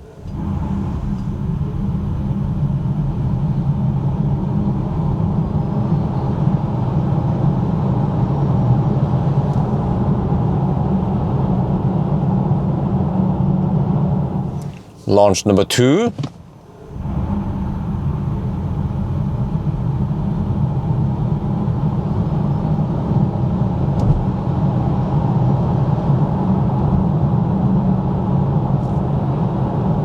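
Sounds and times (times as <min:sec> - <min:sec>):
electric car accelerating: 0:00.0 - 0:14.8, 0:16.6 - 0:30.0
road and tyre noise rumble: 0:00.0 - 0:30.0.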